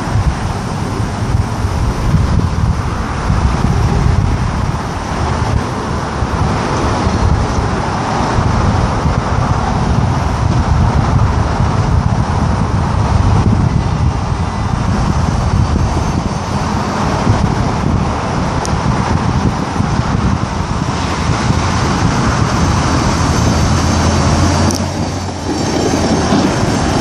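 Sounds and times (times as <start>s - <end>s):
pickup engine running: 0.0s - 27.0s
wind on microphone: 0.0s - 27.0s.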